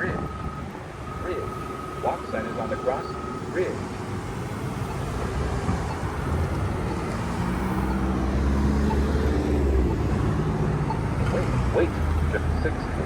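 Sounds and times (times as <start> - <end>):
vehicle engine low hum: 0.0 - 13.0.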